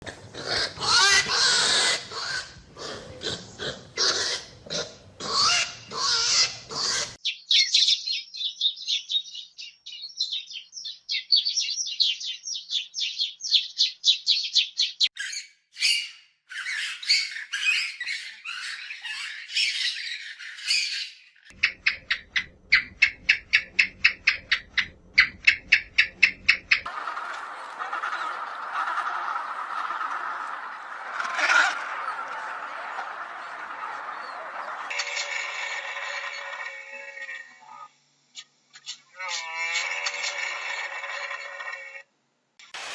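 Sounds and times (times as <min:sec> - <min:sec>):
birds chirping and squawking: 0:00.0 - 0:41.9.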